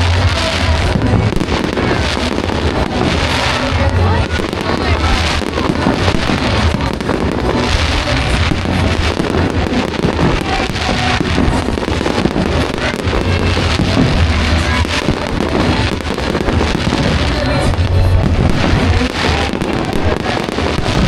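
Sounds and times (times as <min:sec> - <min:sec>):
fireworks crackling: 0:00.0 - 0:21.0
low rumble: 0:00.0 - 0:21.0
music playing: 0:00.0 - 0:21.0.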